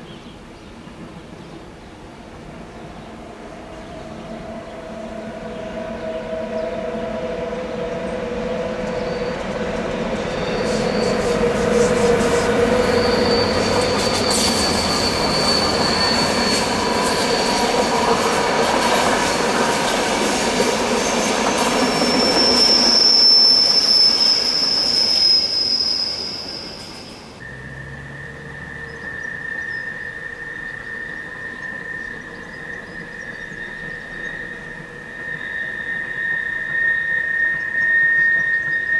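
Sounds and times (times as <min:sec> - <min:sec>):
train rolling noise: 0:00.4 - 0:38.9
train wheels squealing: 0:02.4 - 0:38.9.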